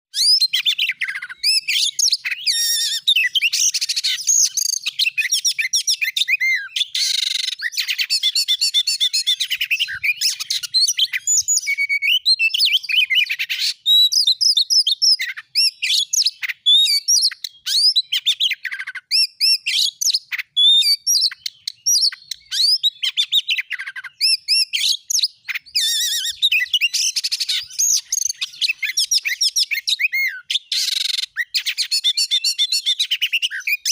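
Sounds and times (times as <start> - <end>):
magpie-robin singing: 0.1 - 33.9.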